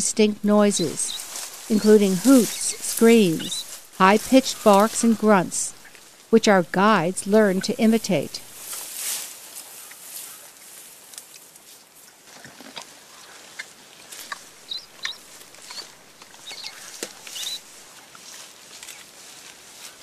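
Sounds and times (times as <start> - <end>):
vegetation rustling: 0.0 - 20.0.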